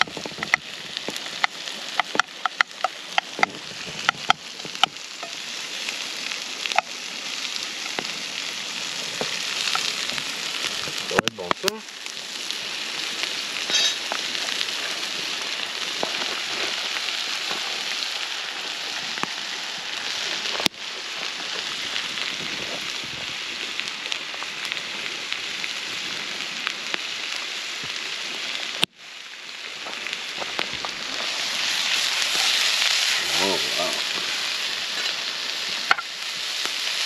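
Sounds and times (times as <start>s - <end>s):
food sizzling over campfire: 0.0s - 37.0s.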